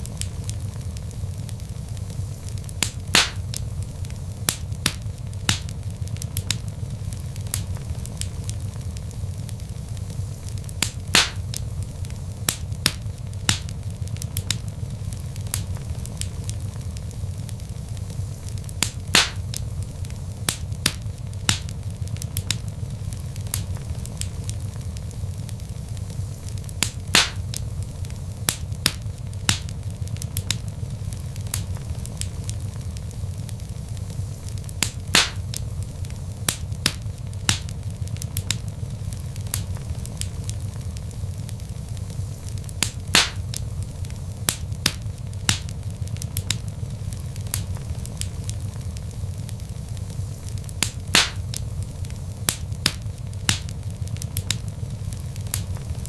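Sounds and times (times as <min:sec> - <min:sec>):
wood logs burning crackling: 0:00.0 - 0:56.0.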